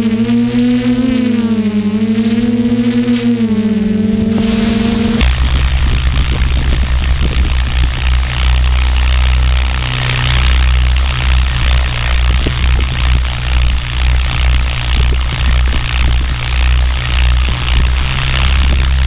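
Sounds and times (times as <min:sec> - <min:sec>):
drone motors and propellers: 0:00.0 - 0:19.0
wind buffeting microphone: 0:00.0 - 0:19.0.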